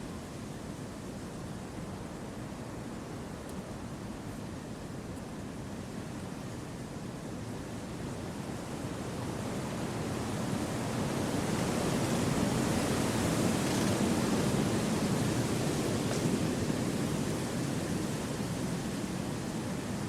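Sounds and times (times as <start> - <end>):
wind rushing through trees: 0.0 - 20.0.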